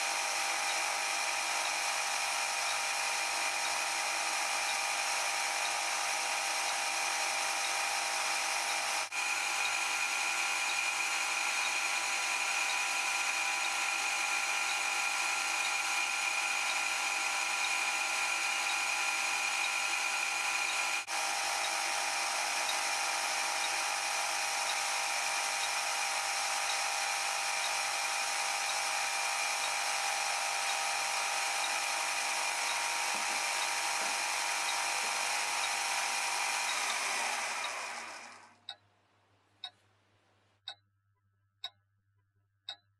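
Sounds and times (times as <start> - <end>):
power tool motor whining: 0.0 - 38.6.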